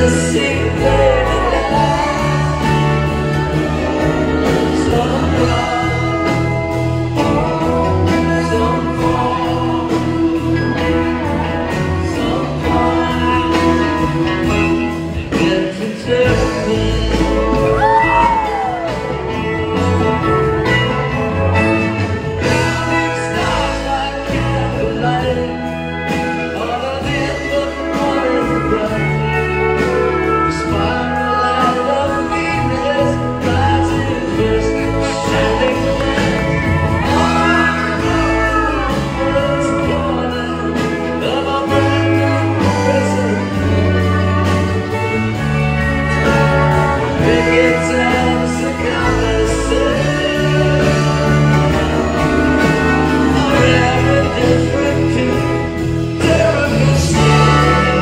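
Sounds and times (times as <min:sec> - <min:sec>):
acoustic guitar: 0:00.0 - 0:58.0
electric bass: 0:00.0 - 0:58.0
person singing: 0:00.0 - 0:58.0
steel guitar: 0:00.0 - 0:58.0.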